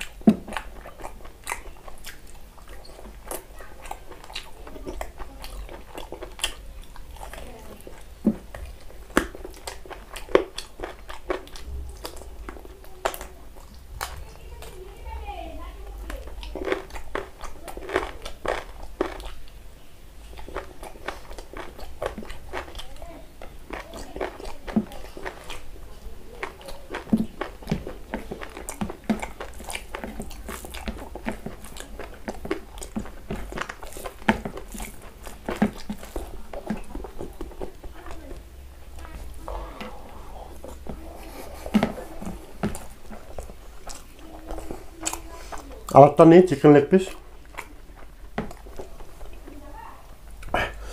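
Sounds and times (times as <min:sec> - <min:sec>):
person chewing and lip smacking: 0:00.0 - 0:46.1, 0:46.7 - 0:50.9.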